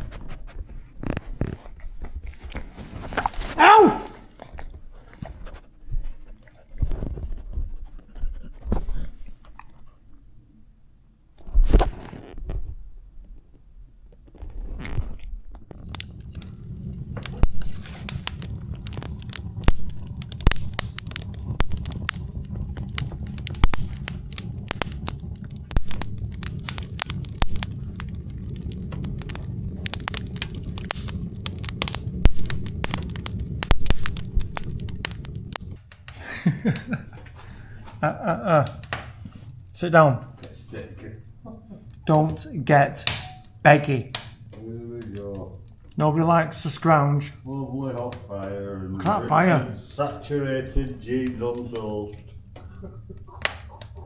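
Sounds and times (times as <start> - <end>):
wood fire crackling and popping: 0.0 - 6.2, 11.3 - 54.0
low rumble of burning: 0.0 - 54.0.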